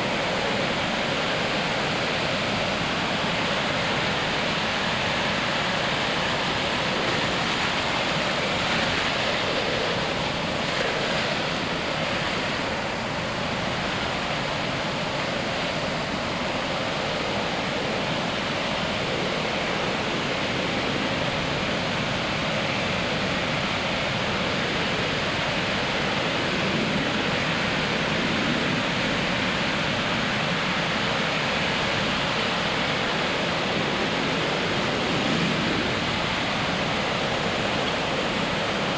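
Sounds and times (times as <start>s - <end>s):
ocean surf on beach: 0.0s - 38.9s.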